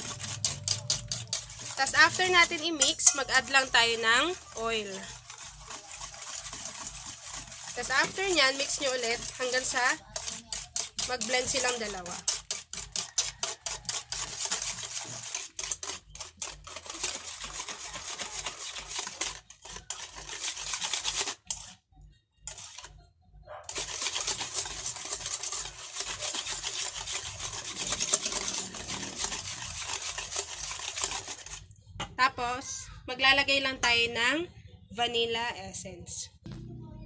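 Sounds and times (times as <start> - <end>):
whisk clicking against bowl: 0.0 - 21.7, 23.7 - 31.7.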